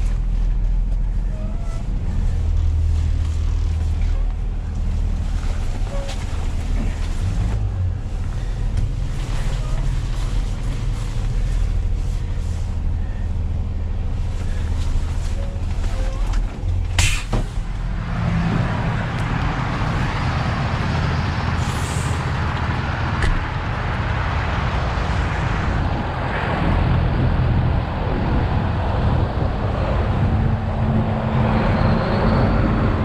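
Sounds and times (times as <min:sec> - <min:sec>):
road and wind noise: 0:00.0 - 0:33.0
truck diesel engine rumble: 0:00.0 - 0:33.0.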